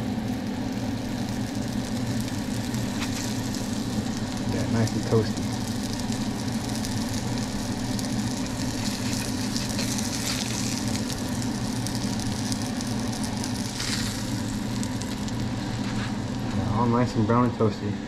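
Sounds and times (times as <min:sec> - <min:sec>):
fish sizzling in a frying pan: 0:00.0 - 0:16.9
continuous low hum: 0:00.0 - 0:18.0.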